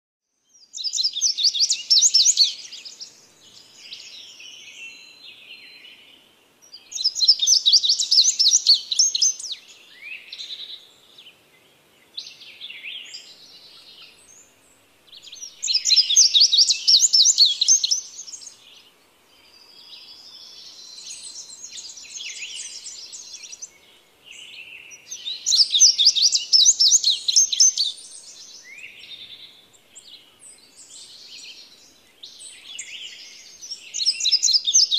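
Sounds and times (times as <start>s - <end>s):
soft twittering bird chirps: 0.4s - 34.9s.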